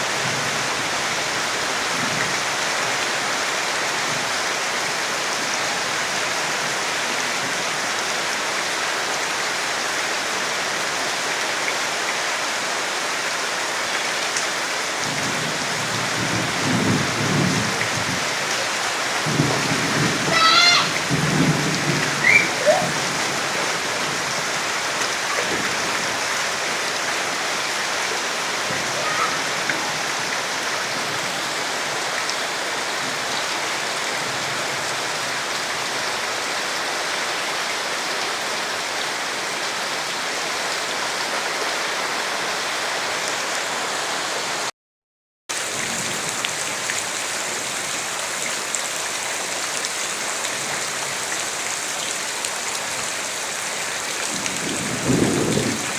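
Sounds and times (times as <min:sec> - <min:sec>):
steady rain falling: 0:00.0 - 0:44.7, 0:45.5 - 0:55.9.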